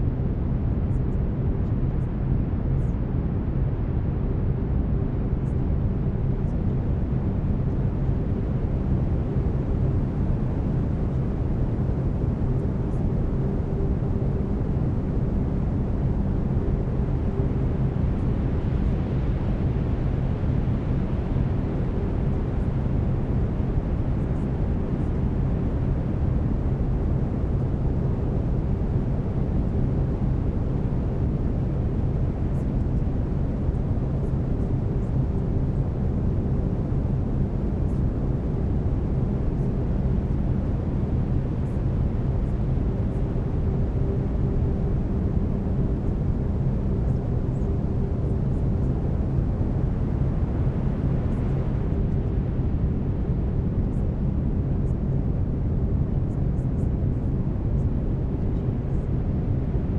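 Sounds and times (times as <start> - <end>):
brown noise rumble-hiss: 0.0 - 59.9.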